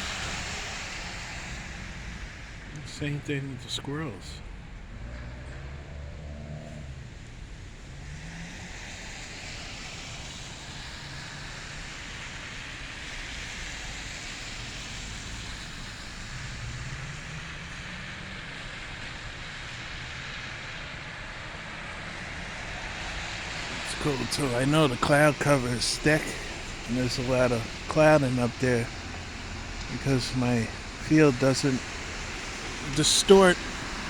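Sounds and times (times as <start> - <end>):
low engine hum: 0.0 - 34.0
tyres hissing on road: 0.0 - 34.0.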